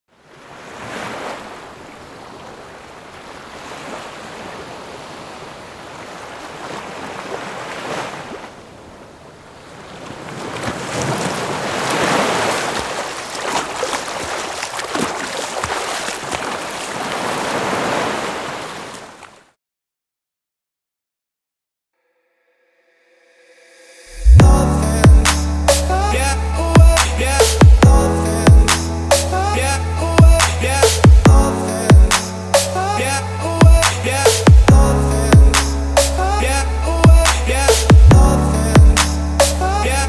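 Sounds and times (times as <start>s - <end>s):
ocean waves washing in: 0.1s - 19.3s, 23.2s - 40.0s.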